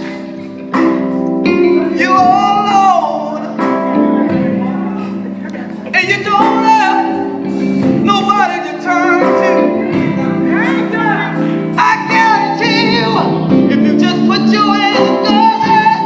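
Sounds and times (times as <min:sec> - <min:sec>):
sustained keyboard chords: 0:00.0 - 0:16.0
men singing gospel: 0:01.5 - 0:16.0.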